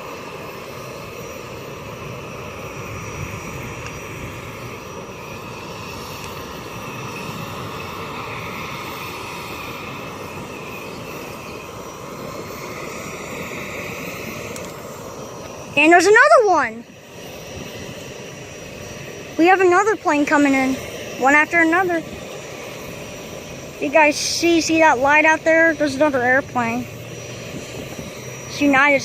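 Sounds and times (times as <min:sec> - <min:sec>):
airliner engines droning: 0:00.0 - 0:29.0.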